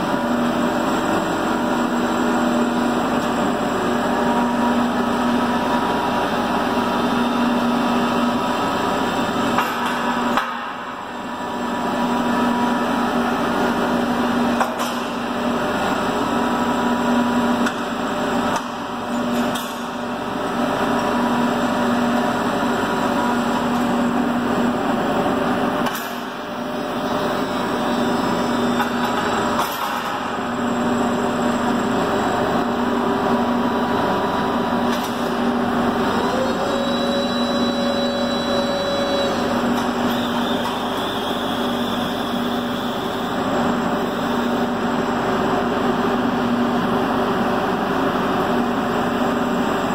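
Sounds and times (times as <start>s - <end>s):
high hydraulic whine: 0.0s - 49.9s
hydraulic hum: 0.0s - 49.9s.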